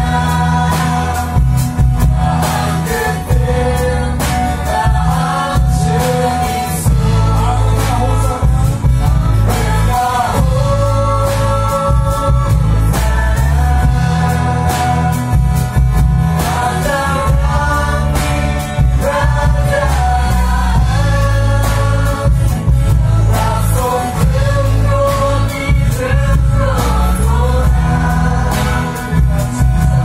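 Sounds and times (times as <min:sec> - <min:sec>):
drum kit beat: 0:00.0 - 0:30.0
guitar: 0:00.0 - 0:30.0
heavy bass: 0:00.0 - 0:30.0
vocal group singing gospel: 0:00.0 - 0:30.0.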